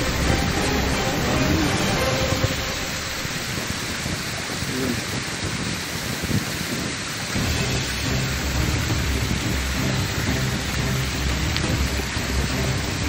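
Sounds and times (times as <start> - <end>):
deep waterfall rumble: 0.0 - 13.0
stream water rushing: 0.0 - 13.0.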